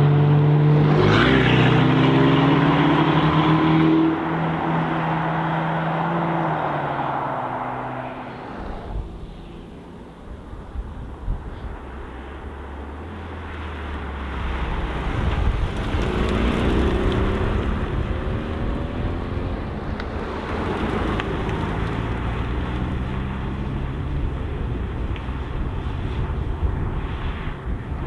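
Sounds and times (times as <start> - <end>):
sports car engine accelerating: 0.0 - 11.2, 11.9 - 27.6.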